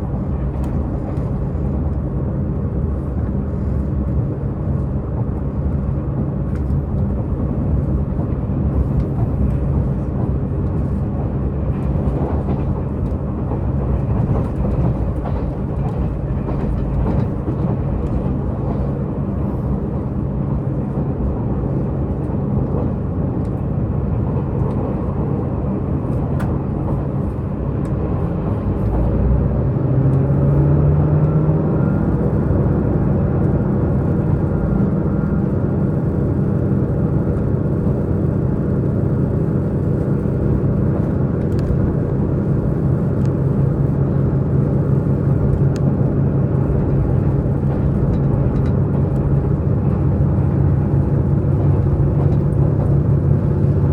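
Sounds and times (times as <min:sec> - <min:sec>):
wheel and rail noise: 0:00.0 - 0:29.4, 0:30.1 - 0:53.9
train diesel engine droning: 0:00.0 - 0:53.9.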